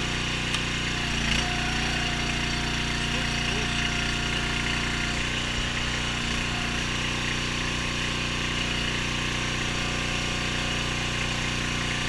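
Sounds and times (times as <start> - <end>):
log splitter engine running: 0.0 - 12.0.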